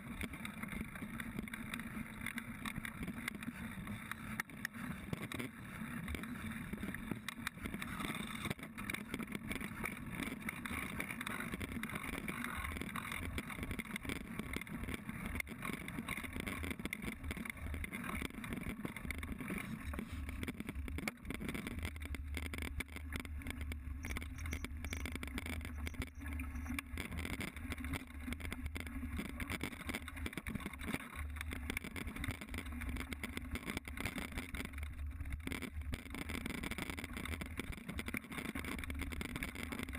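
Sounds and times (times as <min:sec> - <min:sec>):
bike rattles and knocks: 0:00.0 - 0:39.8.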